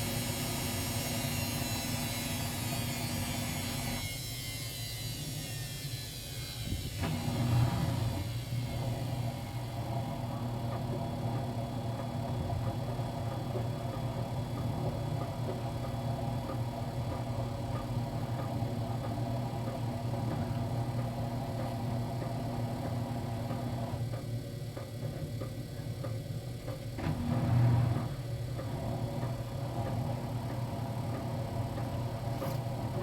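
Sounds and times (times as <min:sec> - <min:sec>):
washer motor hum: 0:00.0 - 0:33.0.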